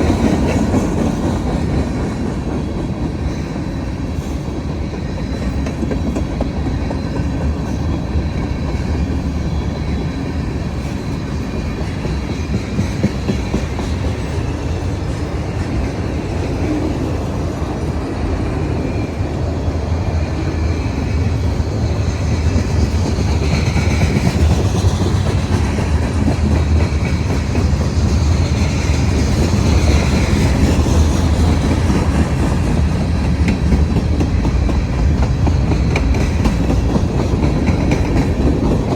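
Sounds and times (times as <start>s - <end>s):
freight train wheels clacking: 0.0s - 38.9s.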